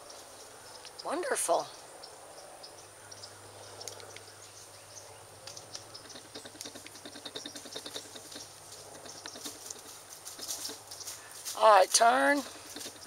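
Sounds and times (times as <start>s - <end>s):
high insect drone: 0.0s - 13.0s
small birds chirping: 0.0s - 13.0s.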